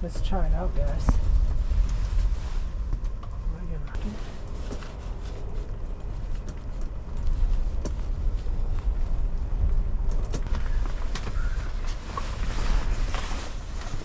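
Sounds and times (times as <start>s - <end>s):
gear clicking and rustling: 0.0s - 14.0s
strong wind gusting: 0.0s - 14.0s.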